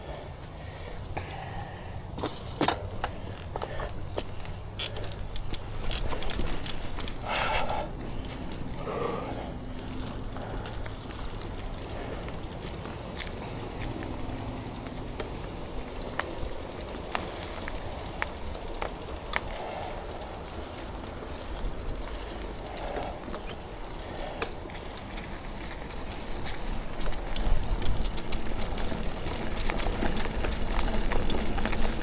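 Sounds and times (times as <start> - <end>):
bike clicks and rattles: 0.0 - 32.0
bike tyres rolling on dirt: 0.0 - 32.0.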